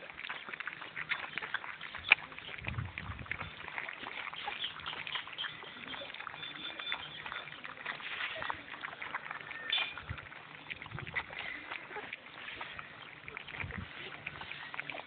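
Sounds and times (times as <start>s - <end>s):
puppies licking and lapping: 0.0s - 15.0s.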